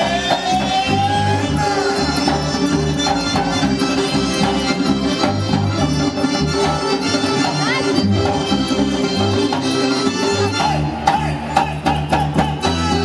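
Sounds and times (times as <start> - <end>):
instrumental music with bass line: 0.0 - 13.0.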